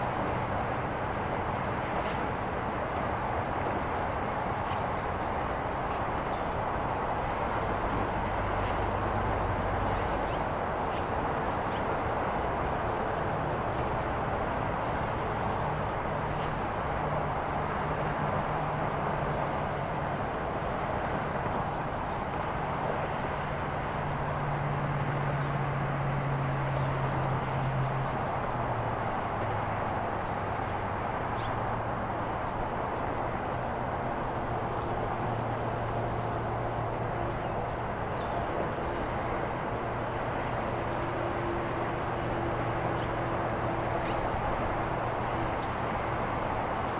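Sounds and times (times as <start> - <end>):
distant traffic rumble: 0.0 - 46.9.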